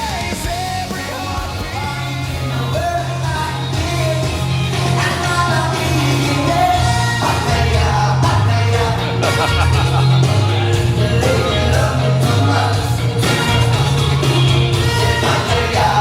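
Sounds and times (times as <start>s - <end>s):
rock-pop song with vocals: 0.0s - 16.0s.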